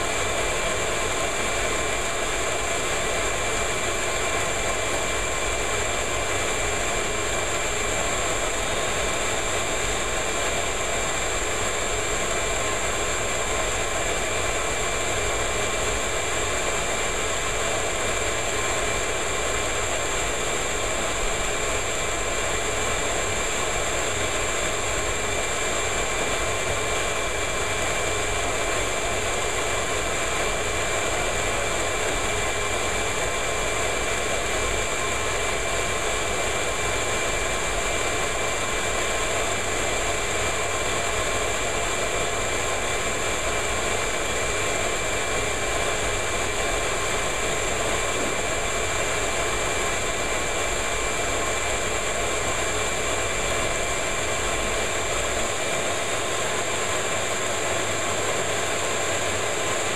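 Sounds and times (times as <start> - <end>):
shop vacuum running: 0.0 - 59.9.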